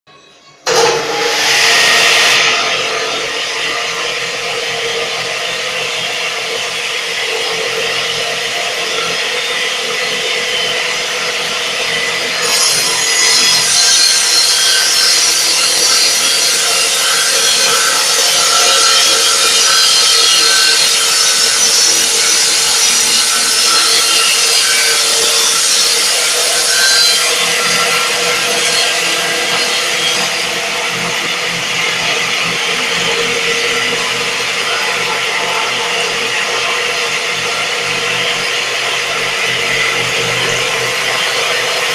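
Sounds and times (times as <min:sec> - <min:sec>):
sawmill sawing wood: 0:00.7 - 0:41.9.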